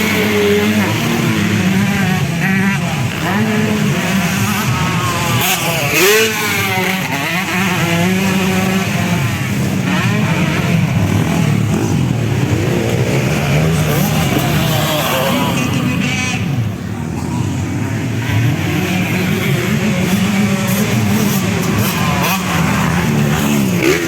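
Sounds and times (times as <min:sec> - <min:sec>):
motocross bikes revving: 0:00.0 - 0:24.0.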